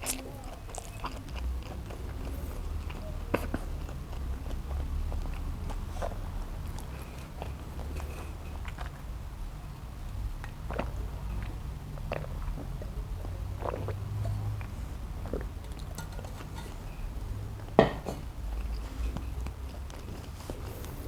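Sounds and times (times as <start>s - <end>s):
chewing food: 0.0s - 21.0s.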